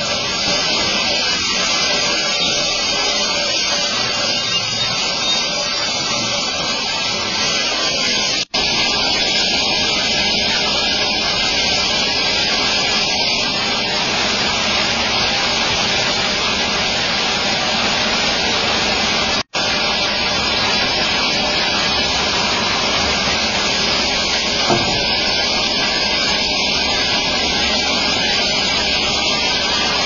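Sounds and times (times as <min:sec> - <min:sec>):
band saw cutting through log: 0:00.0 - 0:30.0.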